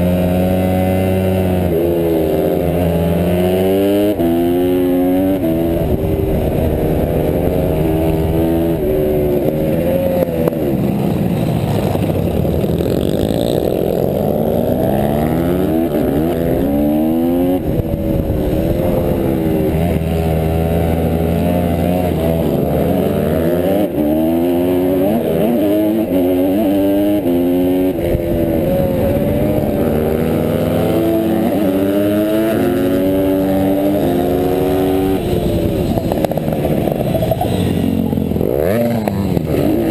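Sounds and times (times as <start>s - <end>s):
other motorbike engines: 0.0s - 39.9s
pit bike engine revving: 0.0s - 39.9s.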